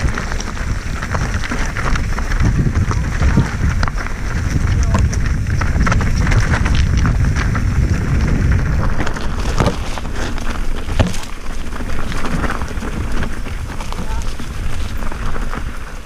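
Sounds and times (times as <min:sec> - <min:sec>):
bike clattering over ground: 0:00.0 - 0:16.0
wind buffeting microphone: 0:00.0 - 0:16.0.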